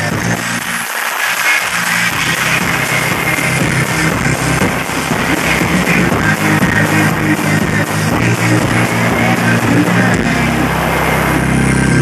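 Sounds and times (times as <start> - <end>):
heavy bass: 0.0 - 0.8, 1.6 - 12.0
electronic rock band playing: 0.0 - 12.0.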